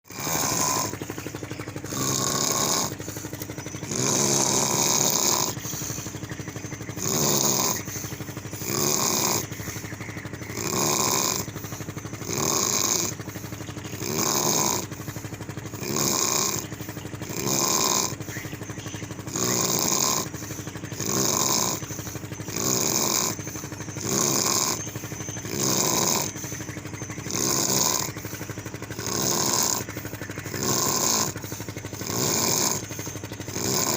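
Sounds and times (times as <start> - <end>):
person snoring: 0.1 - 1.0, 1.9 - 6.1, 6.9 - 9.5, 10.5 - 15.0, 15.8 - 18.2, 19.3 - 26.6, 27.2 - 29.9, 30.5 - 32.9, 33.5 - 33.9.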